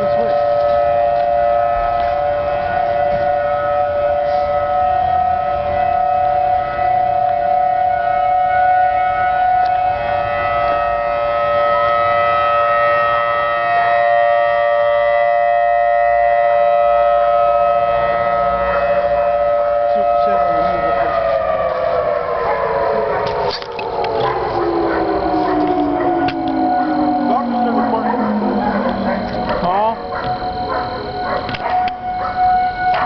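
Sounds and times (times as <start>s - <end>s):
tornado warning siren: 0.0s - 33.0s.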